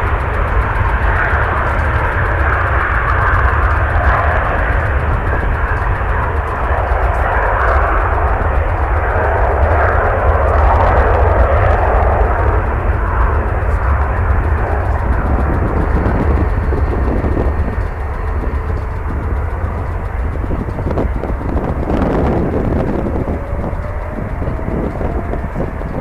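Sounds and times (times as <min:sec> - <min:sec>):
jet engines roaring: 0:00.0 - 0:26.0
wind buffeting microphone: 0:00.0 - 0:26.0.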